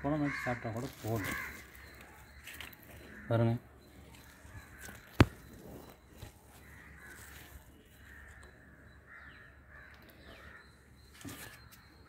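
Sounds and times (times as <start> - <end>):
birds calling faintly: 0.0 - 12.0.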